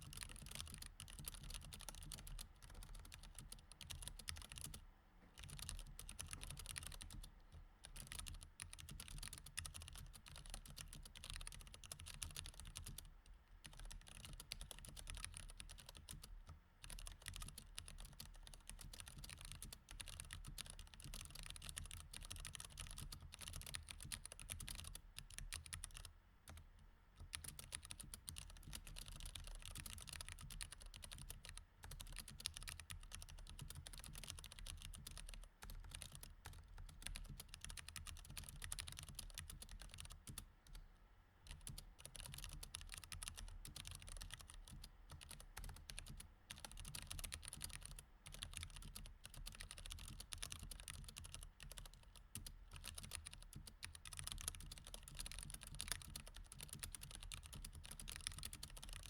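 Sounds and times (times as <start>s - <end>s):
fast typing on mechanical keyboard: 0.0s - 4.8s, 5.4s - 26.6s, 27.2s - 40.8s, 41.5s - 59.0s.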